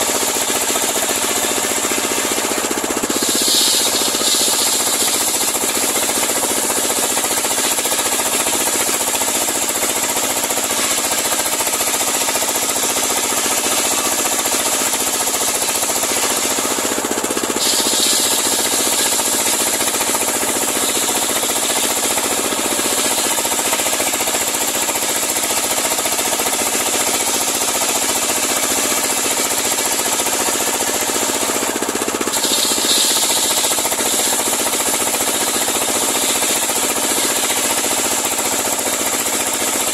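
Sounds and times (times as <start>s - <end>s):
circular sawmill sawing log: 0.0s - 39.9s.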